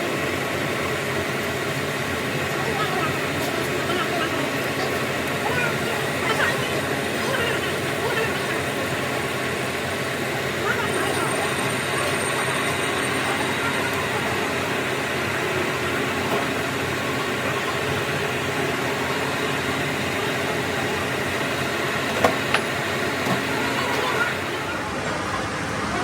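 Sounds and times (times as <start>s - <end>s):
workshop machinery humming: 0.0s - 26.0s.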